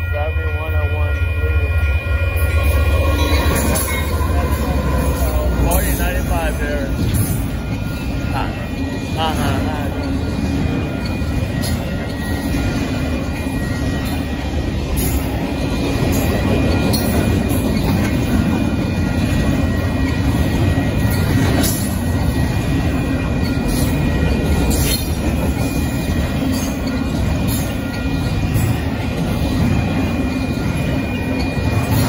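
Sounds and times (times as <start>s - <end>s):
freight train rumbling past: 0.0s - 32.0s
steel wheels clacking on rail: 0.0s - 32.0s.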